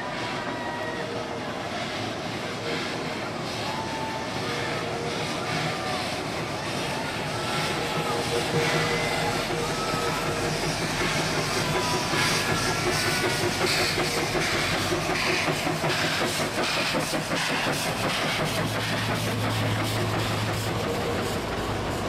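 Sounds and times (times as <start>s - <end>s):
train wheels clicking: 0.0s - 22.0s
steady rushing noise: 1.1s - 22.0s.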